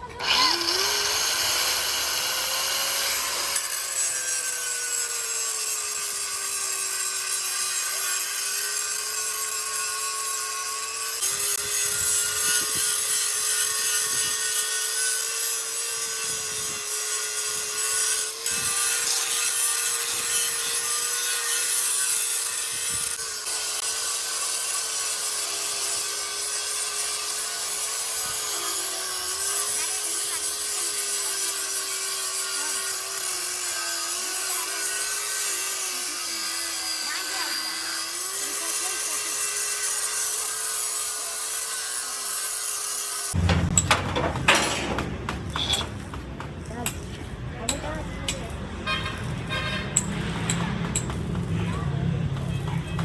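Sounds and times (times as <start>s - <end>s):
angle grinder grinding steel: 0.0s - 46.1s.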